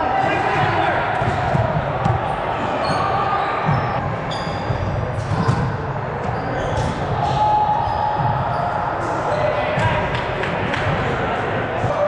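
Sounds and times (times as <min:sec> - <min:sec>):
volleyballs hit and bouncing: 0:00.3 - 0:12.0.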